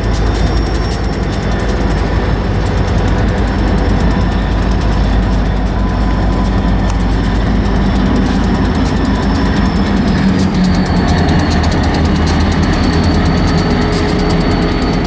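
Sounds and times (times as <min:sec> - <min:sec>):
diesel locomotive engine rumbling: 0:00.0 - 0:15.0
fast even clicking: 0:00.0 - 0:15.0.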